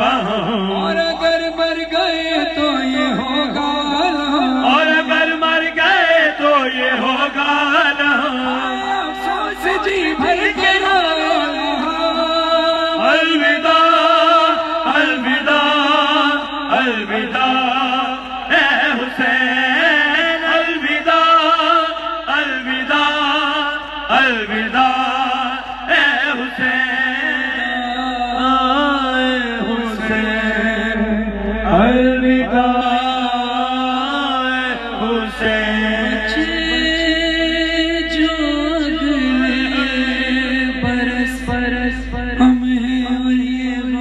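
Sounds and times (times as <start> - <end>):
man chanting into a microphone: 0.0 - 44.0.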